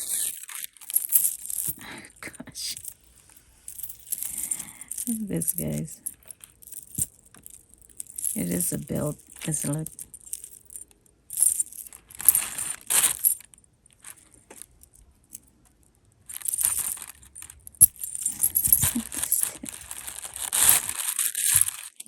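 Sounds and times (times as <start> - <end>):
metal belt jangling: 0.0 - 1.8, 2.8 - 15.5, 16.3 - 22.0.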